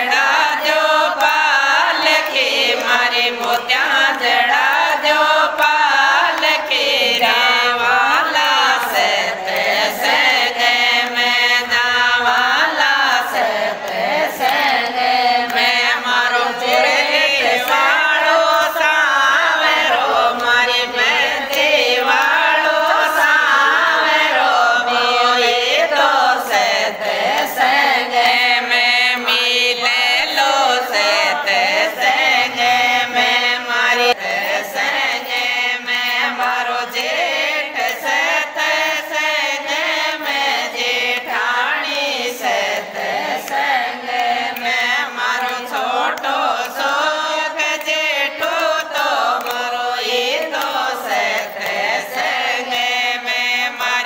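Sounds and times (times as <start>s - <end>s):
hand-clapping: 0.0s - 54.0s
women singing in unison: 0.0s - 54.0s.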